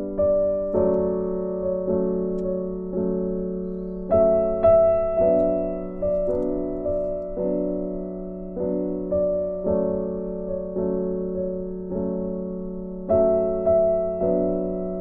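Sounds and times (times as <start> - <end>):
piano notes and chords: 0.0 - 15.0.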